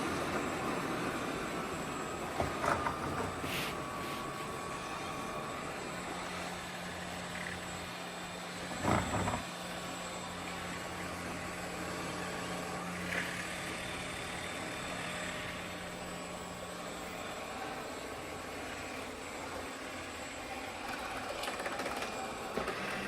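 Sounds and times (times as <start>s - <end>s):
robot vacuum humming: 0.0s - 23.0s.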